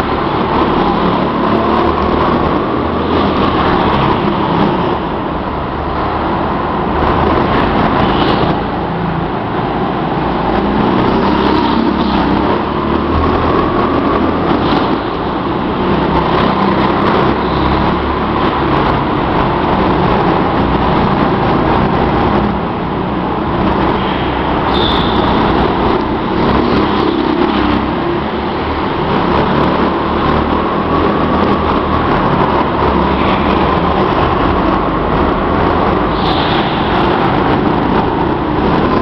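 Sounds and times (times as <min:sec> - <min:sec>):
go-kart engines droning: 0:00.0 - 0:39.0.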